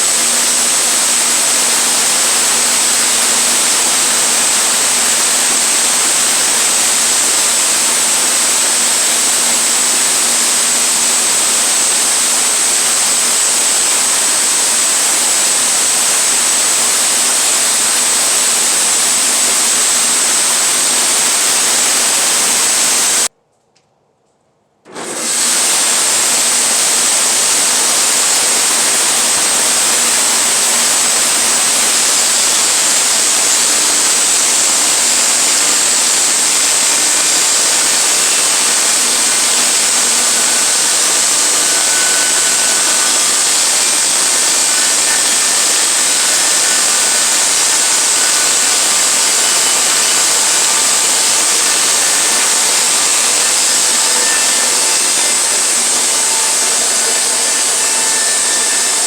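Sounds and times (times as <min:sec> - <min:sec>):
sawmill sawing through log: 0:00.0 - 0:23.3, 0:24.9 - 0:59.0.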